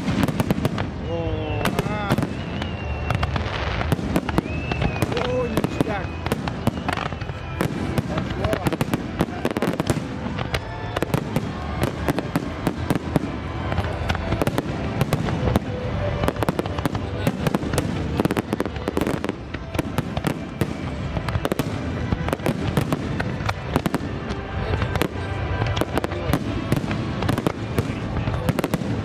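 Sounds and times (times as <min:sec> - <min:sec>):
fireworks bangs and crackle: 0:00.0 - 0:29.0.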